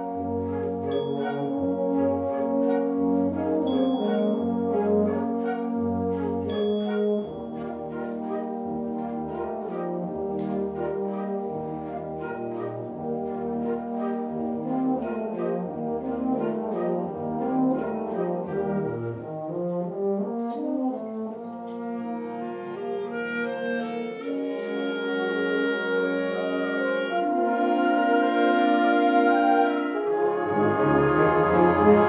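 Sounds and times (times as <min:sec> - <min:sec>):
wind band playing: 0:00.0 - 0:32.0.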